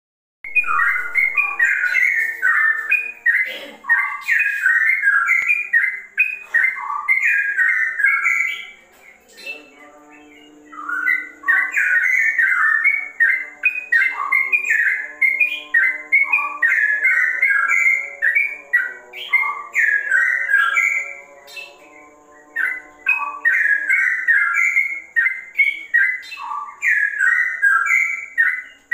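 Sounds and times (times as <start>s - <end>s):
bird singing whistled notes: 0.4s - 28.9s.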